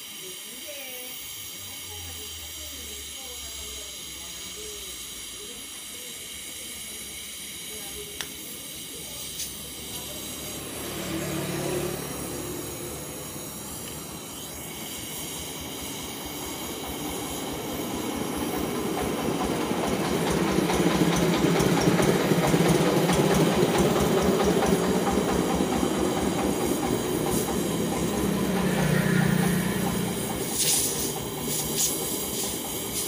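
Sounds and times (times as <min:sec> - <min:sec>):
torch flame roaring: 0:00.1 - 0:33.0.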